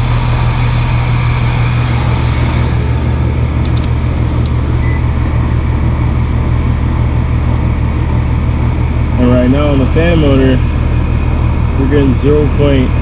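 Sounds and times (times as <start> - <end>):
compressor humming: 0.0 - 13.0
fan rushing: 0.0 - 13.0.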